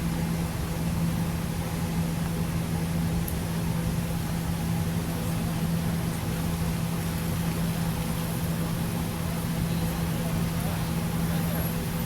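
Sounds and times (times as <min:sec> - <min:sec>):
train running hum: 0:00.0 - 0:12.0.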